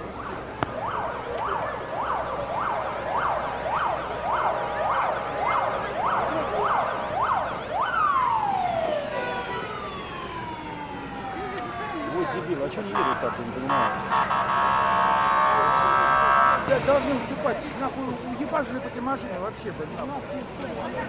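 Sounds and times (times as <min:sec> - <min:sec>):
emergency vehicle siren: 0:00.0 - 0:19.8.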